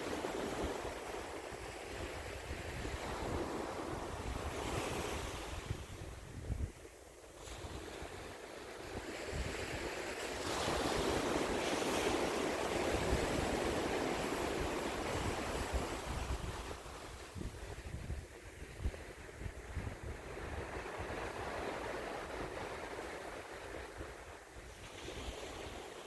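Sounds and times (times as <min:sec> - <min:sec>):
sea waves breaking on shore: 0:00.0 - 0:26.0
wind buffeting microphone: 0:00.0 - 0:26.0.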